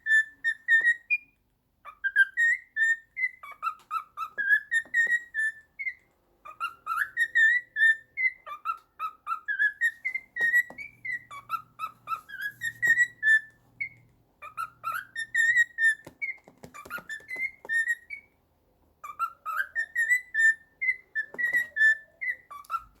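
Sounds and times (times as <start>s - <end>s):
cockatiel whistling a tune: 0.0s - 18.3s, 19.0s - 23.0s.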